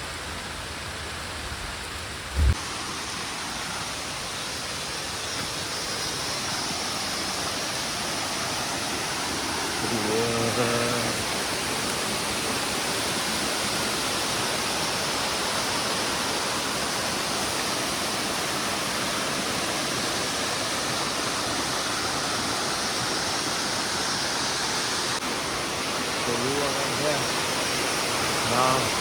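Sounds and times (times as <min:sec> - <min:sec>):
falling water rushing: 0:00.0 - 0:29.0
heavy rain: 0:00.0 - 0:29.0.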